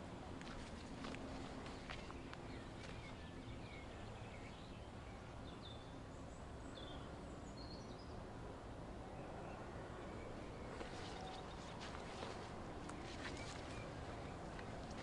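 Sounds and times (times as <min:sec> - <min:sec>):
faint birdsong chirps: 0:00.0 - 0:15.0
steady outdoor hiss: 0:00.0 - 0:15.0.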